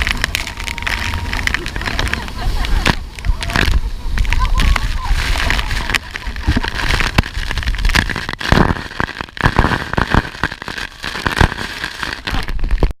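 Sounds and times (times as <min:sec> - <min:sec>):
boat rumble: 0:00.0 - 0:12.9.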